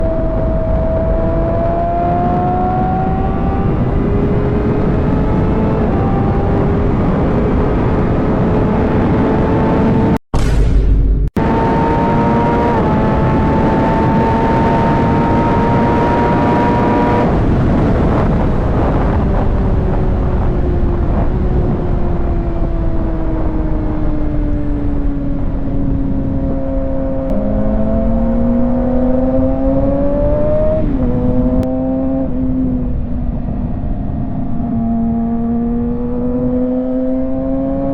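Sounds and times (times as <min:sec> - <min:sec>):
motorcycle engine revving: 0:00.0 - 0:10.2, 0:11.2 - 0:37.9
wind rush: 0:00.0 - 0:37.9.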